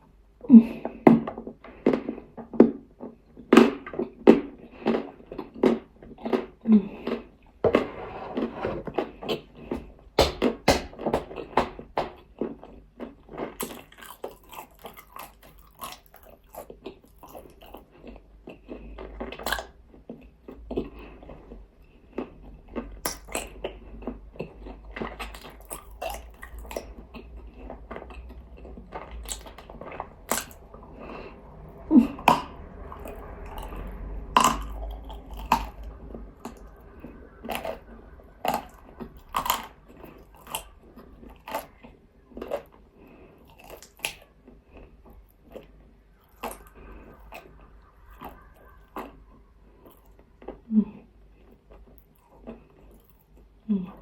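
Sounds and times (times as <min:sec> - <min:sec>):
crunching and chewing clay: 0:00.0 - 0:54.0.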